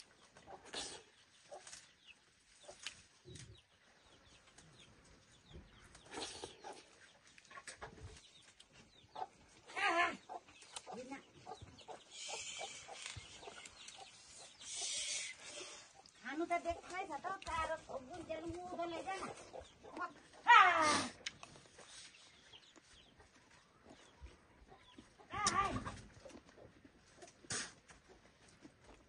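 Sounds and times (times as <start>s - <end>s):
chickens clucking: 0.0s - 20.5s, 21.1s - 29.0s
chicken calls: 0.0s - 29.0s.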